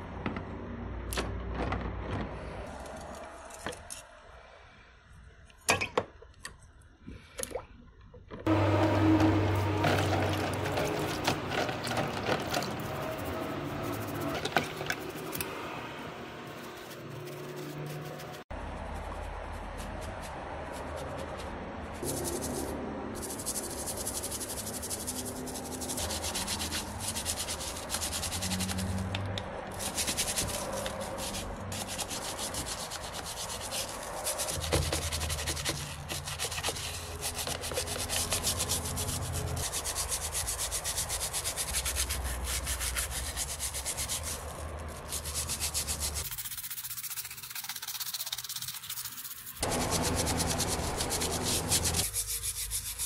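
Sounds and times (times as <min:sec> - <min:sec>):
scratchy wet scrubbing: 0:08.5 - 0:53.0.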